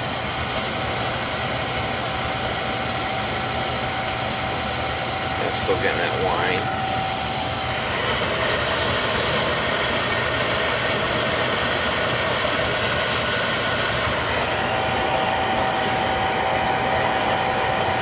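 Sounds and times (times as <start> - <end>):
oil burner roaring: 0.0 - 18.0
thin high whine: 0.0 - 18.0.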